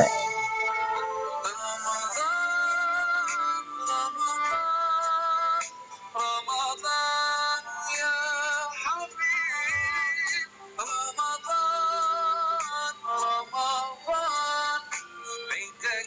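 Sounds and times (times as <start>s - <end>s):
music with synthetic sung melody: 0.0s - 16.0s.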